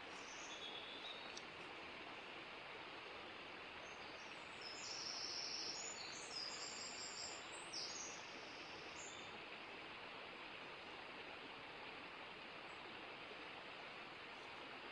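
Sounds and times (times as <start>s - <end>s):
faint outdoor hiss: 0.0s - 14.9s.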